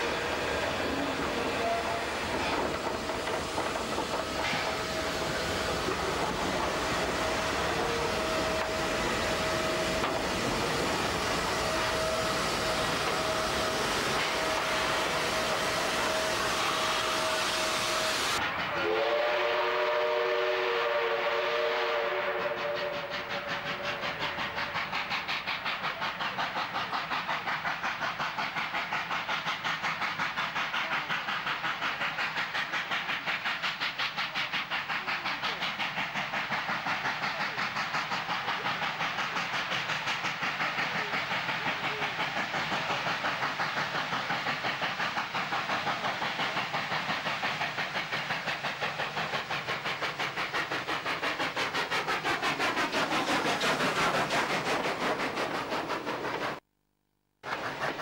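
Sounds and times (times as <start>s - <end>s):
steam locomotive exhaust chuffing: 0.0s - 56.7s, 57.4s - 58.0s.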